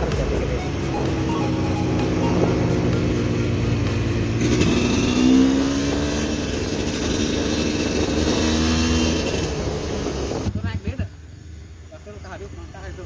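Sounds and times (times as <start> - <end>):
motorcycle engine revving: 0.0 - 10.6
steady rushing hiss: 0.0 - 13.0.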